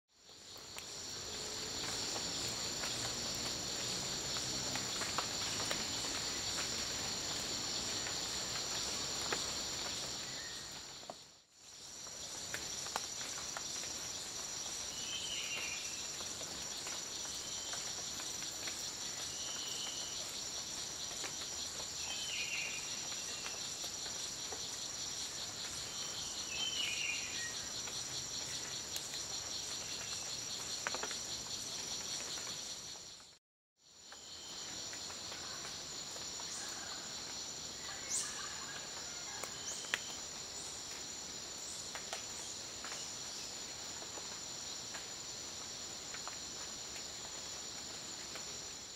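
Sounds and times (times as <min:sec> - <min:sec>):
forest insects trilling: 0:00.2 - 0:48.9.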